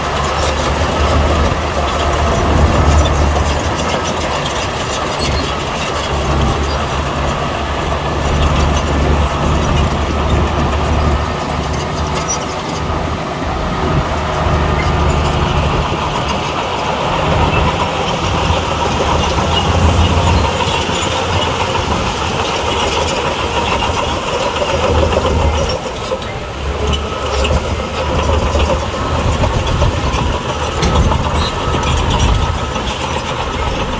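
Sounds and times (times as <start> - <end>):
heavy diesel machinery engine drone: 0.0 - 33.9.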